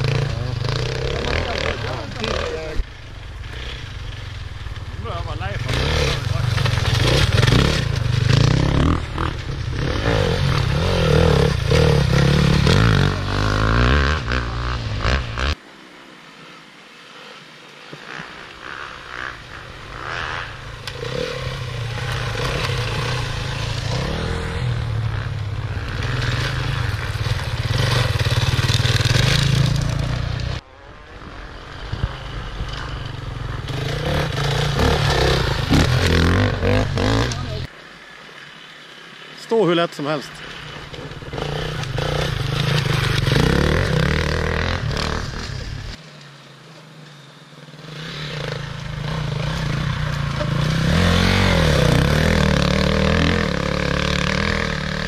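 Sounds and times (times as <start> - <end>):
motorcycle engines passing: 0.0 - 55.0.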